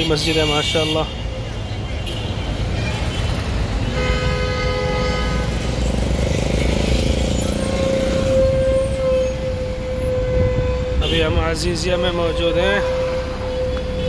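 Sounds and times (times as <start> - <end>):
vehicle horn: 0.0 - 1.2, 2.0 - 5.7, 7.4 - 14.0
car and bus engines rumbling: 0.0 - 14.0.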